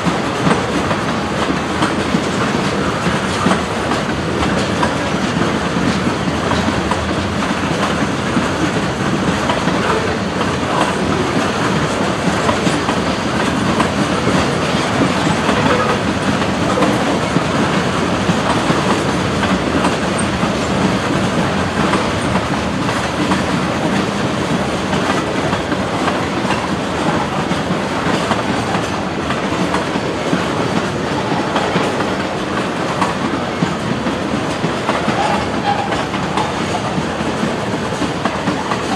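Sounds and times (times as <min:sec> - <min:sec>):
train wheels rumbling on rail: 0:00.0 - 0:38.9
wheels clicking over rail joints: 0:00.0 - 0:38.9.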